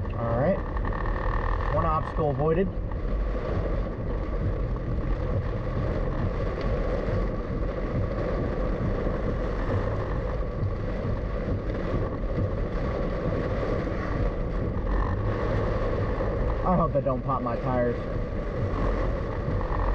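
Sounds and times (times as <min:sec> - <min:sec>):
car engine and tyre noise: 0:00.0 - 0:19.9.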